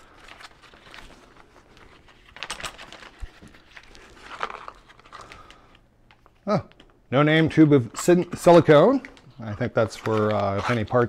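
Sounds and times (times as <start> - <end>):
packaging rustling and crinkling: 0.0 - 6.9, 8.4 - 11.0.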